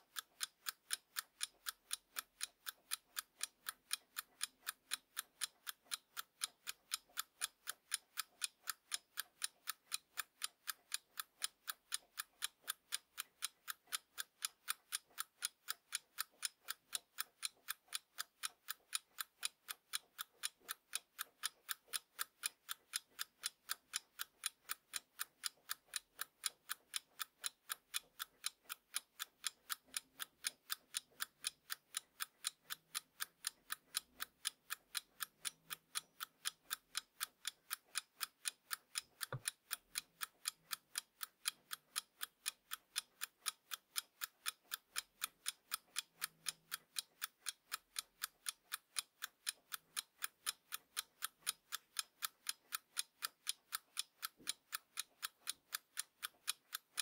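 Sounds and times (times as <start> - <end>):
alarm clock ticking: 0.0 - 57.0.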